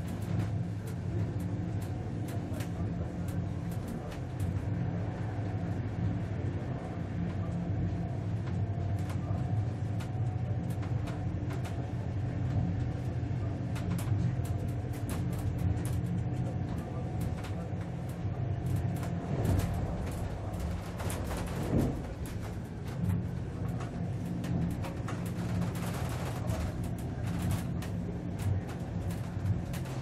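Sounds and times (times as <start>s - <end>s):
light clicks and rattles: 0.0s - 4.7s, 8.3s - 30.0s
faint hum tones: 0.0s - 30.0s
train rumbling: 0.0s - 30.0s.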